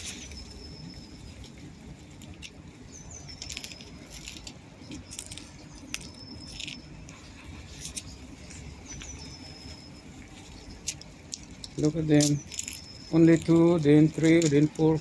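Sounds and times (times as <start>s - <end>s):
high thin chirps: 0.0s - 1.6s, 2.8s - 14.4s
low traffic rumble: 0.0s - 15.0s
pigeons pecking hard ground: 0.0s - 15.0s.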